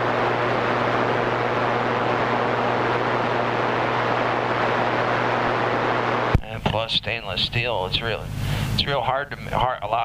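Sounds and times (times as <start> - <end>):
low hum: 0.0 - 8.8
radio static hiss: 0.0 - 10.0.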